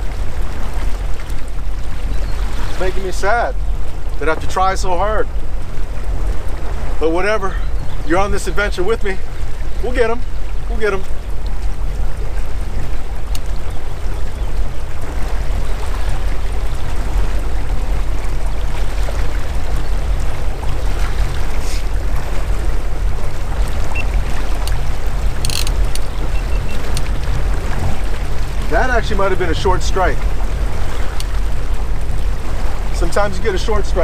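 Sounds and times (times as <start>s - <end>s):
motorboat engine rumbling: 0.0s - 34.0s
water rushing along hull: 0.0s - 34.0s.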